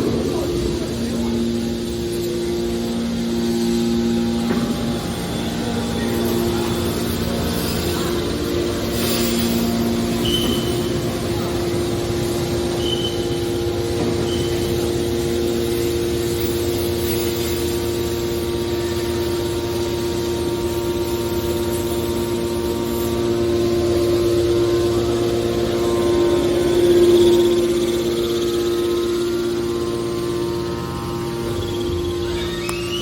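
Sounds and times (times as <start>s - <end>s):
hydraulic pump motor whining: 0.0s - 33.0s.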